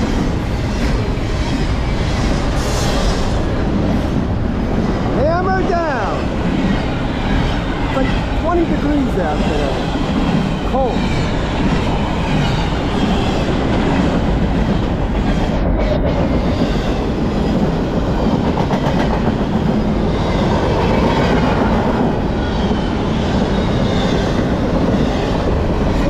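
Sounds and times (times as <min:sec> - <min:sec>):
steel train wheels on rails: 0:00.0 - 0:26.0.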